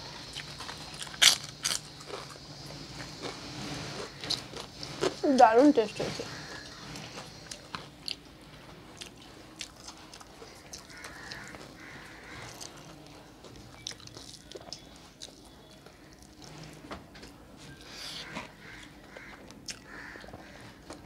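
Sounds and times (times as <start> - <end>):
person chewing food: 0.2 - 5.2, 6.3 - 16.5, 17.8 - 21.0.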